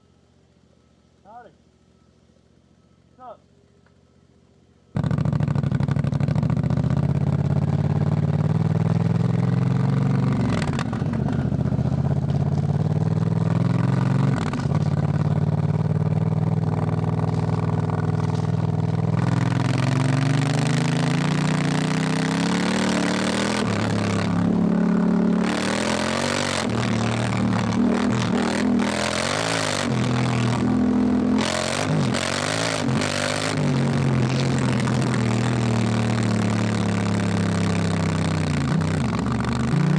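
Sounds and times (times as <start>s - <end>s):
motorcycle engine revving: 5.0s - 39.9s.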